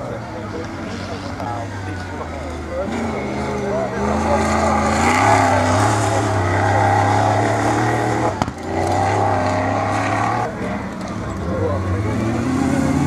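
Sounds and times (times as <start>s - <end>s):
truck engine running hard: 0.0s - 13.0s.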